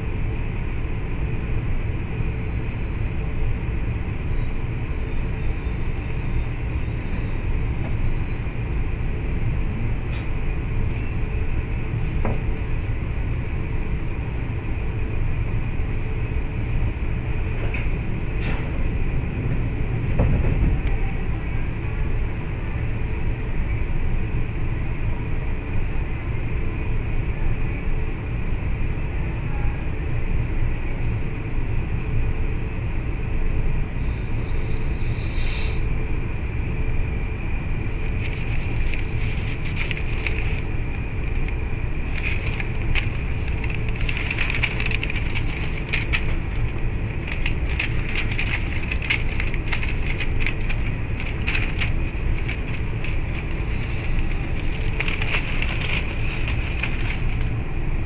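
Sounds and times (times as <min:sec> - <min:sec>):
faint even hum: 0:00.0 - 0:58.0
train cabin low rumble: 0:00.0 - 0:58.0.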